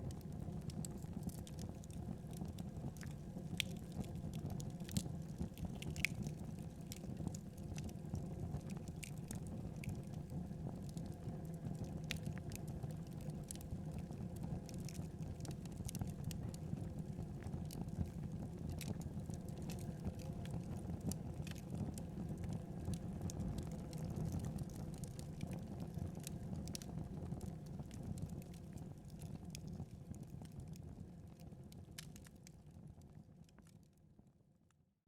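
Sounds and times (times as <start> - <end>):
wood fire crackling: 0.0 - 29.8.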